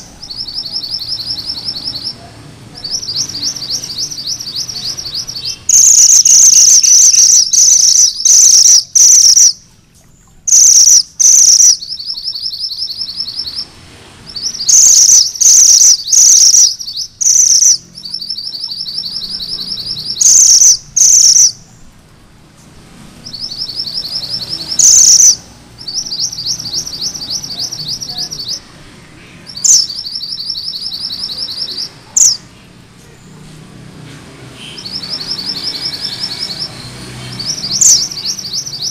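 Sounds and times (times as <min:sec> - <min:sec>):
bird chattering song: 0:00.0 - 0:21.9, 0:23.2 - 0:33.4, 0:34.5 - 0:38.9.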